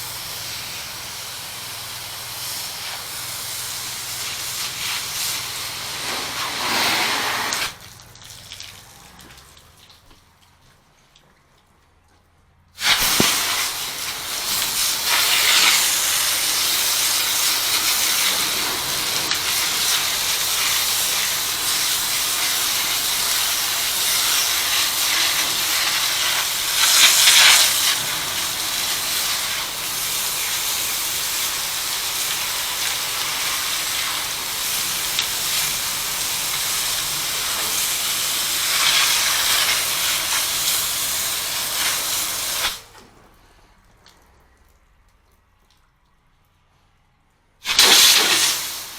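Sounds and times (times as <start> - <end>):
pressure washer spraying: 0.0 - 8.4, 12.8 - 43.0, 47.6 - 48.9.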